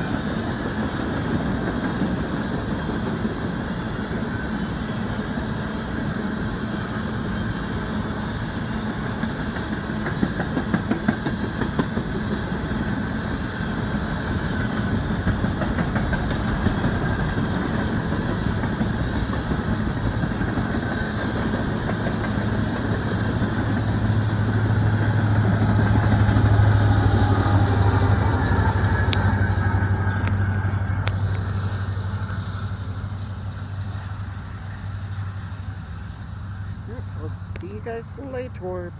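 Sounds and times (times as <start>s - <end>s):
train wheels clicking over rail joints: 0.0s - 5.3s, 5.9s - 34.1s
empty train cars rattling: 0.0s - 35.2s
diesel locomotive drone: 0.0s - 38.9s.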